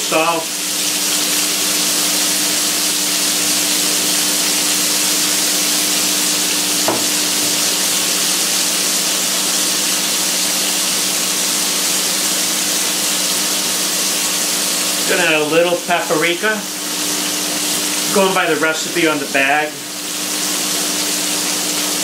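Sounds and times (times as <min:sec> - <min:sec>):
onions sizzling in a skillet: 0:00.1 - 0:22.0.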